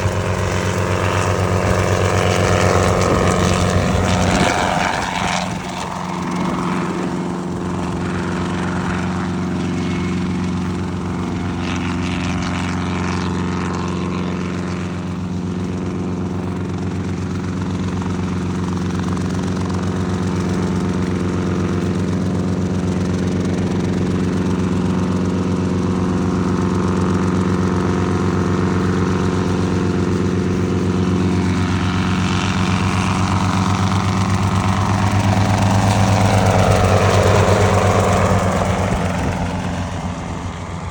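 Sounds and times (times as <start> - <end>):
helicopter running: 0.0 - 40.9.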